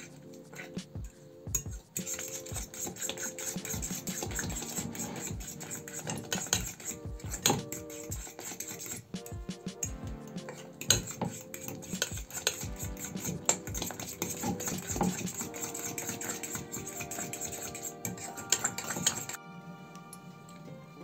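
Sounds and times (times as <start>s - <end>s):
fork stirring batter in glass bowl: 0.0s - 19.4s.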